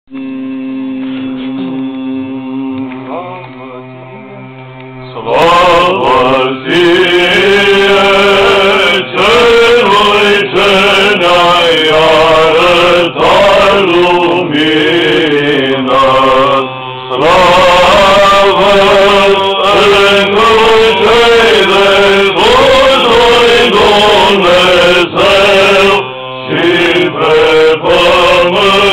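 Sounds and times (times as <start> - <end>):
long held note: 0.1 - 28.9
men chanting in a church: 5.1 - 28.9.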